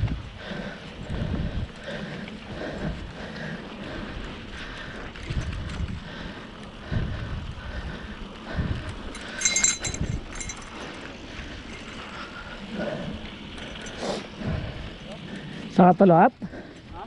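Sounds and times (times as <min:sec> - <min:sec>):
bicycle tyres rolling on dirt: 0:00.0 - 0:17.0
bike rattling over bumps: 0:00.0 - 0:17.0.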